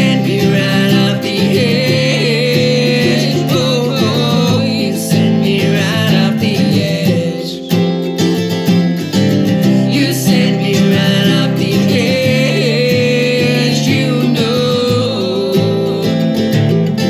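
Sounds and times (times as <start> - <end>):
man and woman singing: 0.0 - 8.1, 9.5 - 16.6
acoustic guitar strumming: 0.0 - 17.0
mandolin: 0.0 - 17.0.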